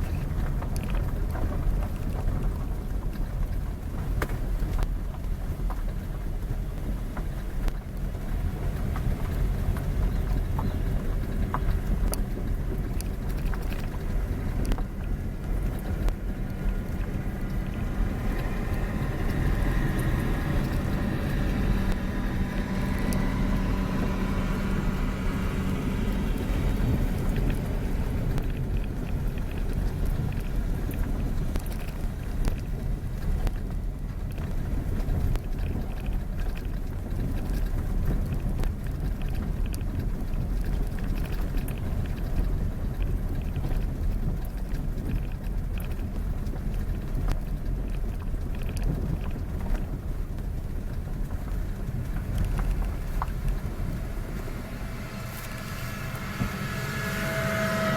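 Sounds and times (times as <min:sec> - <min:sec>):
pitched engine hum: 0:00.0 - 0:57.9
road noise: 0:00.0 - 0:57.9
vehicle engine: 0:00.0 - 0:57.9
wind on microphone: 0:00.0 - 0:57.9.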